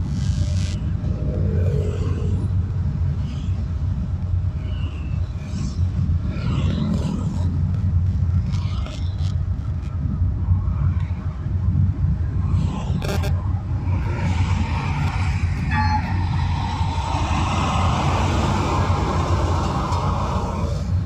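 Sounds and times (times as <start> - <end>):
car engine and road rumble: 0.0 - 21.0
passing traffic: 0.0 - 21.0.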